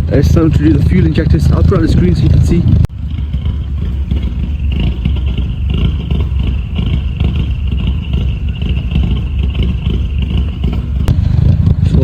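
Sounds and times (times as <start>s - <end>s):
car engine running unevenly: 0.0s - 12.0s.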